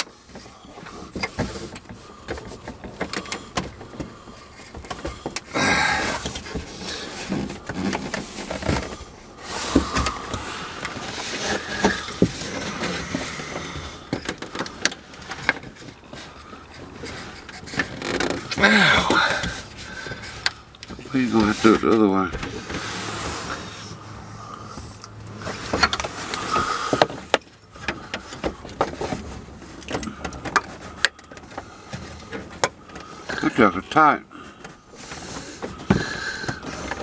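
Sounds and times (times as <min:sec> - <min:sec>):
plastic scraping: 0:00.0 - 0:24.0, 0:24.8 - 0:37.0.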